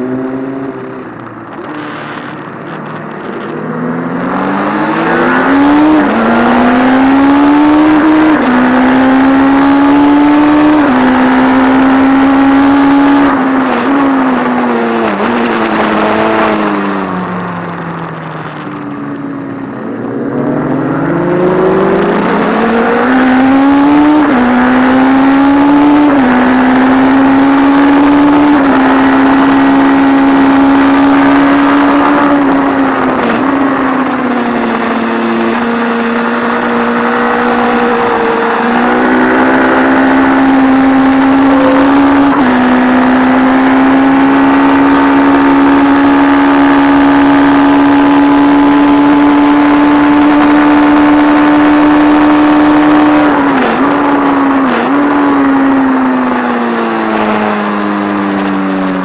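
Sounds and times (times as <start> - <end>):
racing motorcycle engine: 0.0 - 59.0.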